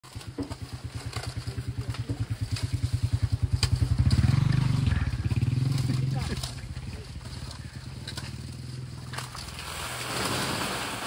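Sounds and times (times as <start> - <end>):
truck engine chugging: 0.0 - 9.0.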